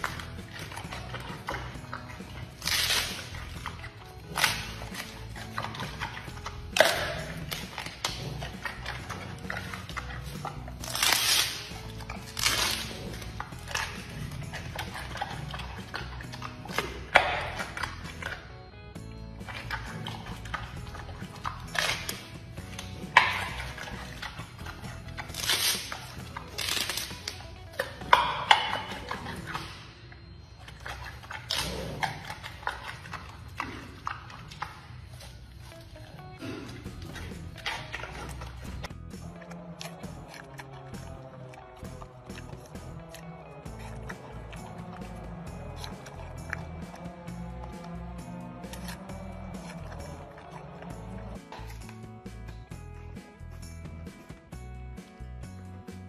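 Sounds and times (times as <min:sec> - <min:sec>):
panda chewing bamboo: 0:00.0 - 0:56.0.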